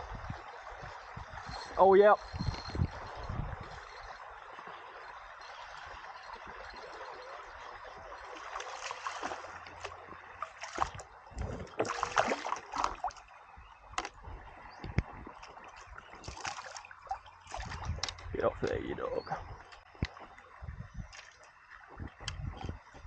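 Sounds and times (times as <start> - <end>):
flowing river water: 0.0 - 23.0
water splashing against kayak: 0.0 - 23.0.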